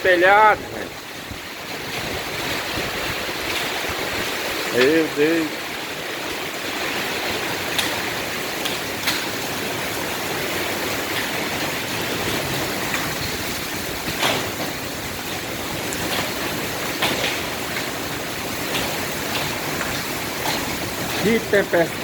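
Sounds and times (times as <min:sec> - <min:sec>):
heavy rain: 0:00.0 - 0:22.0
hailstones knocking: 0:01.2 - 0:22.0.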